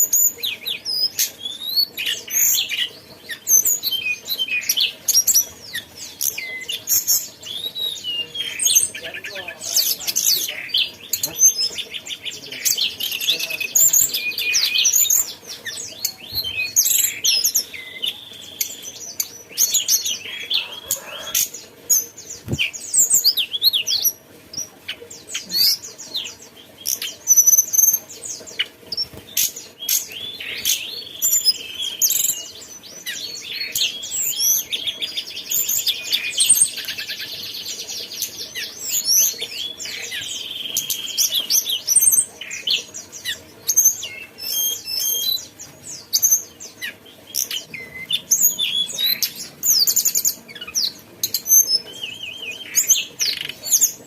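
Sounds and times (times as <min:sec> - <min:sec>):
songbird chattering song: 0:00.0 - 0:54.0.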